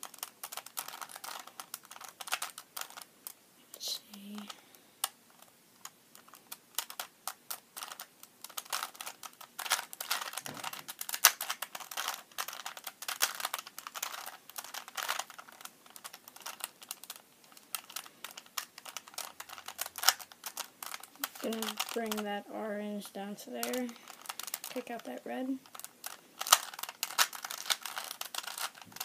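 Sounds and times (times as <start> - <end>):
puzzle cube plastic clicks: 0.0 - 3.4, 4.0 - 29.0.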